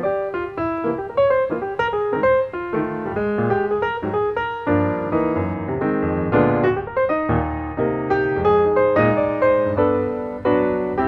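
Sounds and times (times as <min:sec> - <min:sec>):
background music melody: 0:00.0 - 0:11.0.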